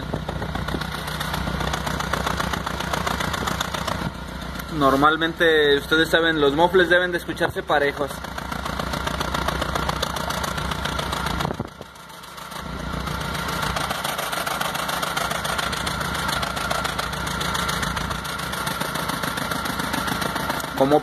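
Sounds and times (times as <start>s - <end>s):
car exhaust idling unevenly: 0.0s - 21.0s.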